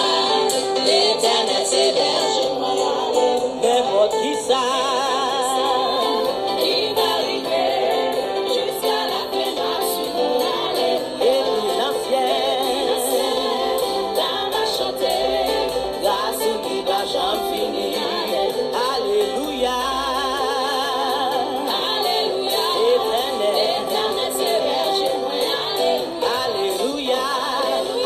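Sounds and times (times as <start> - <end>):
song with singing voice: 0.0 - 28.0.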